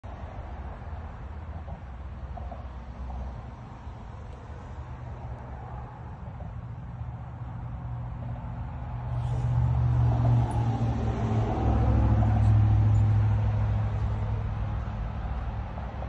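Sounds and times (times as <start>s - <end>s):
vehicle engine rumble passing: 0.1s - 16.0s.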